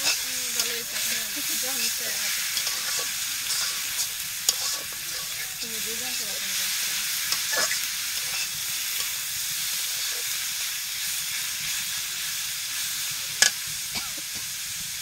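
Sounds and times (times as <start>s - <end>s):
greens sizzling in a wok: 0.0s - 15.0s.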